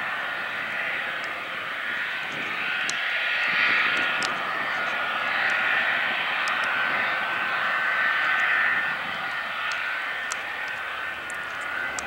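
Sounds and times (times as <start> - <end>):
aircraft engines running: 0.0 - 12.0
thin high whine: 0.0 - 12.0.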